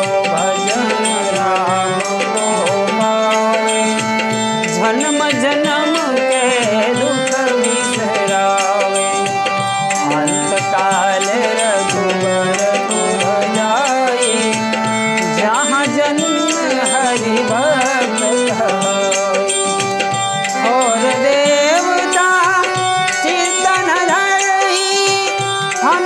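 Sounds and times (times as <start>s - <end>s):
harmonium holding steady notes: 0.0s - 26.0s
tabla: 0.0s - 26.0s
wavering ornamented melody: 0.0s - 26.0s.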